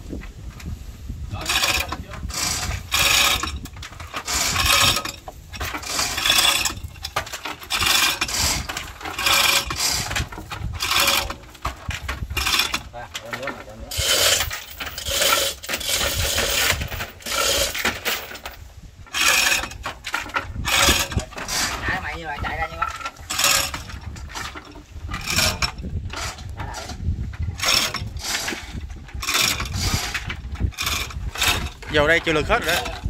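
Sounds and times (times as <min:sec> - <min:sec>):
chain clinking through hoist: 0:01.3 - 0:33.0.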